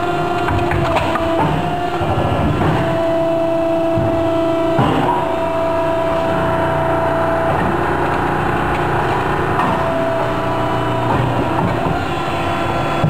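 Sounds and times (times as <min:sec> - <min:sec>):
machine humming with tones: 0:00.0 - 0:13.0.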